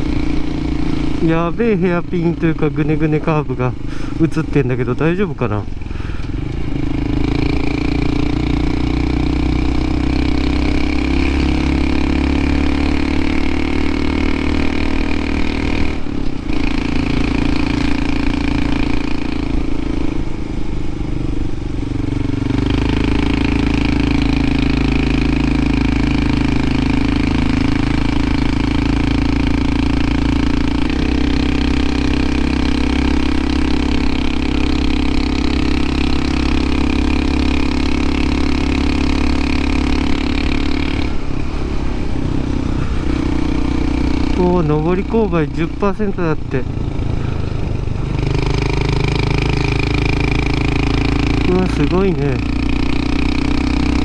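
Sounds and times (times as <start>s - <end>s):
motorcycle engine under load: 0.0s - 54.0s.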